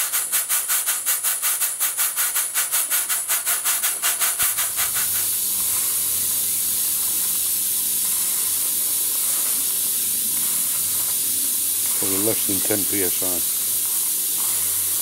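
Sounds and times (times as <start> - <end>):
steady hiss of steam: 0.0 - 15.0
steam pump exhaust puffing: 0.0 - 15.0.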